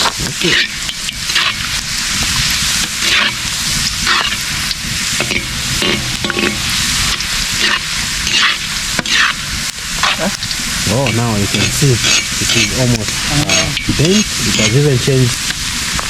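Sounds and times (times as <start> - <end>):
onion sizzling in oil: 0.0 - 16.0
stirring strokes in pan: 0.0 - 16.0.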